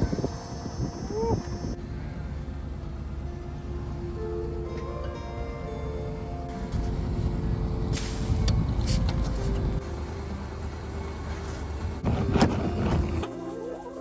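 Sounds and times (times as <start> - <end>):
vehicle engine rumbling: 0.0 - 4.6, 6.4 - 14.0.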